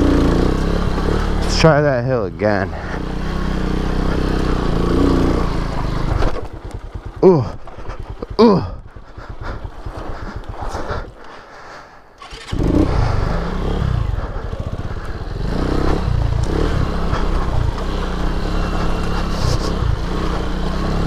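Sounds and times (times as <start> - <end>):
small engine revving: 0.0 - 1.8, 2.5 - 11.1, 12.2 - 21.0.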